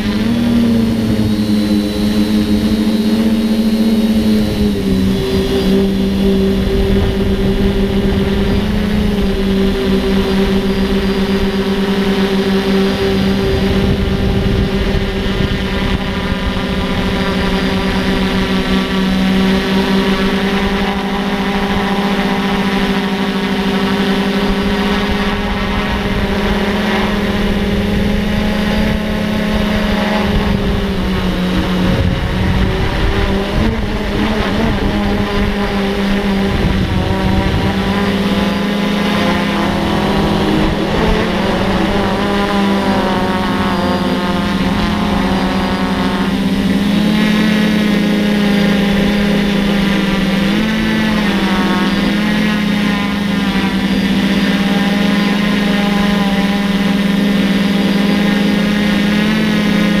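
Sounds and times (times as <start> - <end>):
drone propellers buzzing: 0.0 - 60.0.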